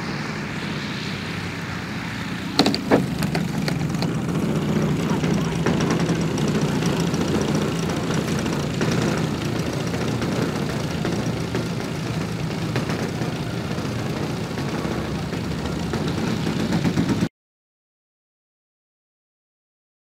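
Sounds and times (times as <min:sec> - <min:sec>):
model airplane engine running: 0:00.0 - 0:17.3.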